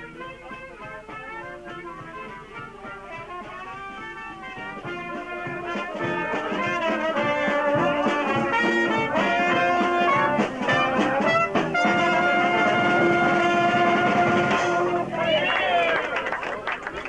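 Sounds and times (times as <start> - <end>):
jazz brass band playing: 0.0 - 16.0.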